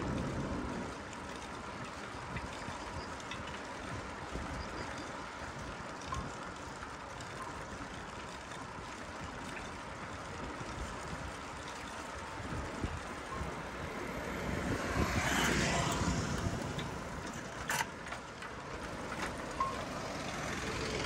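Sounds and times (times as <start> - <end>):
bicycle rumbling down a street: 0.0 - 21.0.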